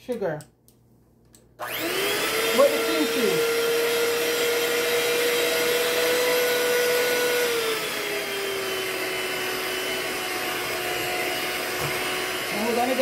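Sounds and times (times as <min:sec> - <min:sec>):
electric hand mixer running: 0:01.6 - 0:13.0.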